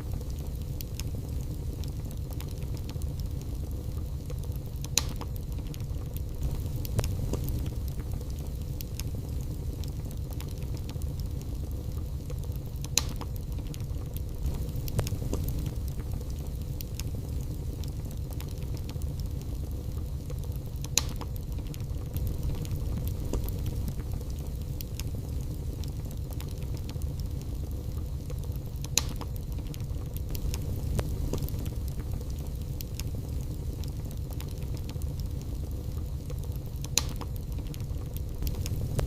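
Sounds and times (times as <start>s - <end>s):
fire crackles and pops: 0.0s - 39.0s
low rumble of flames: 0.0s - 39.0s.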